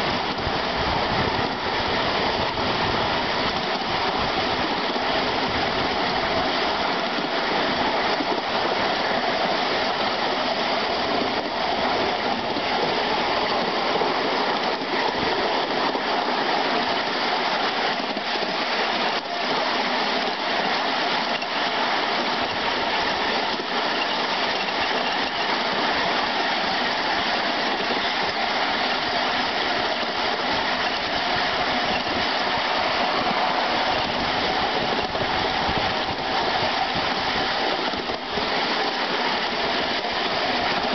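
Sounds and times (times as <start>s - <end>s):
wheels running on rail: 0.0s - 40.9s.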